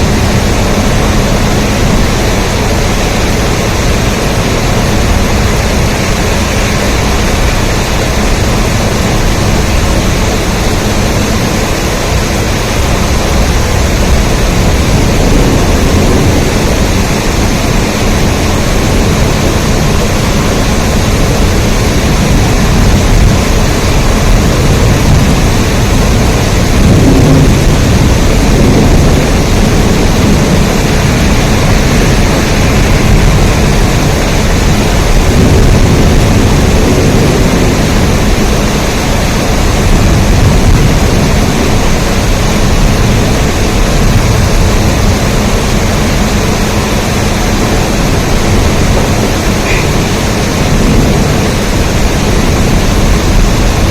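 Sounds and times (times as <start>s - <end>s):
deep low rumble: 0.0s - 53.9s
heavy rain: 0.0s - 53.9s.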